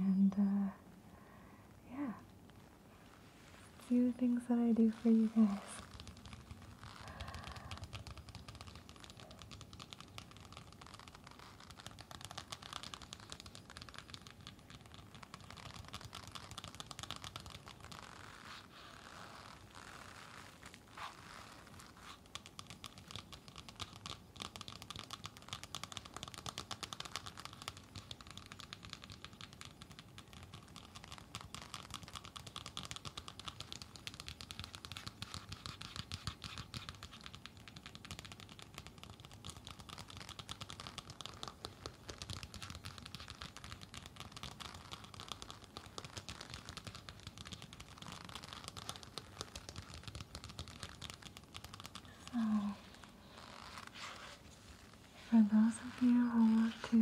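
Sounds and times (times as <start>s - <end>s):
fingernails tapping on plastic mask: 4.2s - 18.4s, 21.6s - 57.0s.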